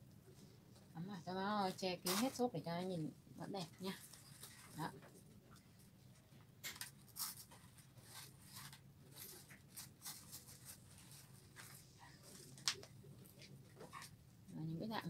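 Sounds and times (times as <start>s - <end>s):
scratchy rustling of artificial flowers: 0.3s - 3.0s, 3.6s - 6.0s, 7.0s - 14.2s.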